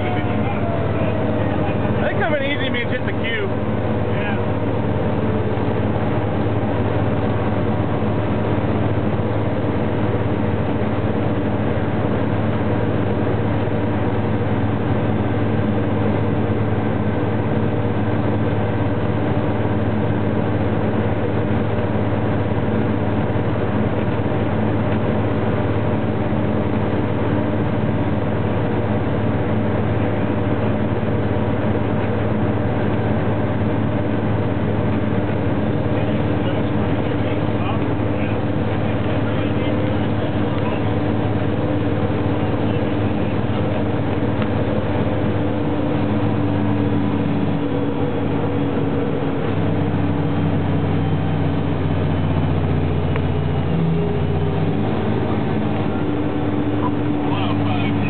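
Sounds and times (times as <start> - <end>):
fire engine driving: 0.0 - 58.0.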